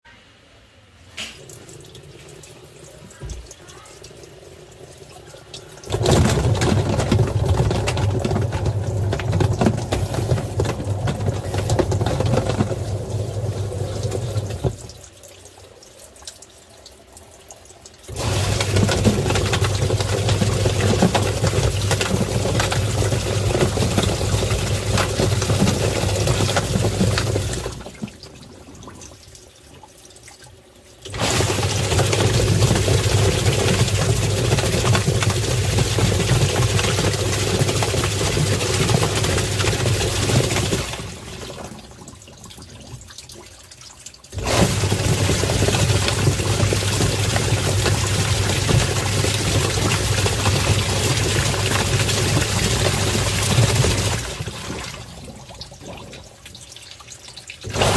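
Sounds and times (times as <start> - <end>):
washing machine motor hum: 0.6 - 15.2, 18.0 - 43.6, 44.3 - 56.8, 57.6 - 57.9
water churning and sloshing: 1.2 - 57.9.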